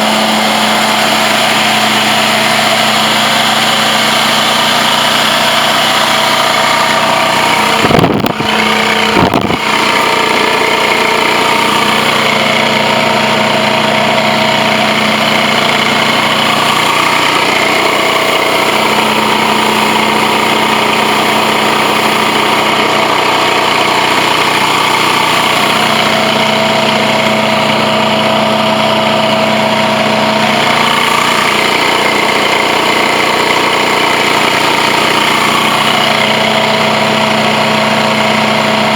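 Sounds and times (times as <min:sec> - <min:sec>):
carpet extractor machine drone: 0:00.0 - 0:38.9.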